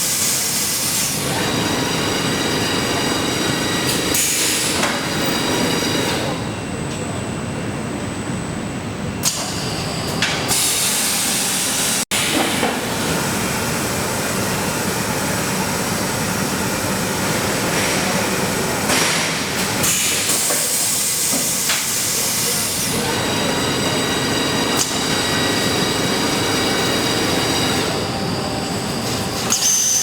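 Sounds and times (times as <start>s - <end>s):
factory machinery hiss and clatter: 0.0s - 6.5s, 9.2s - 30.0s.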